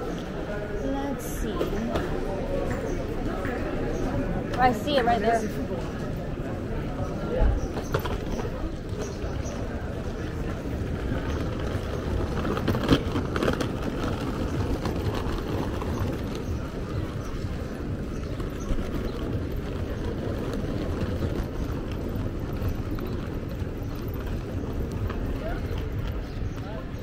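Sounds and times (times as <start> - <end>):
people: 0.0 - 27.0
traffic: 0.0 - 27.0.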